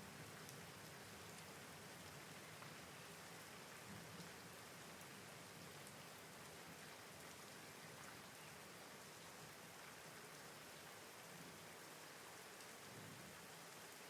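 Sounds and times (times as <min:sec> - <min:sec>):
faint rain falling: 0:00.0 - 0:14.0.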